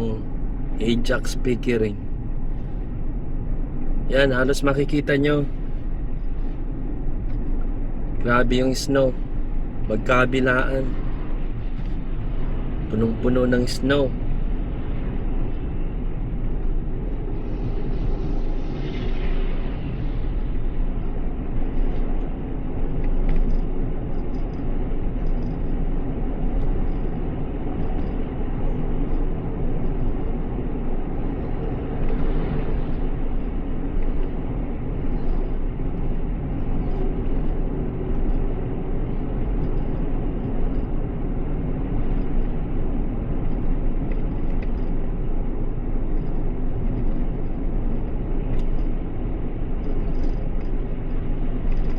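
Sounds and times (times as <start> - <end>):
car road and engine rumble: 0.0 - 51.9.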